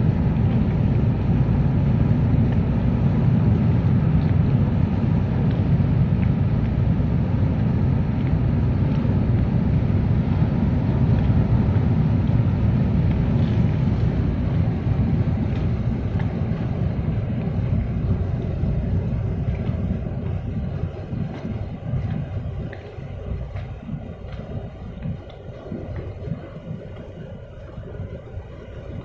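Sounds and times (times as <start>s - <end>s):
low rumble of a ship: 0.0s - 29.0s.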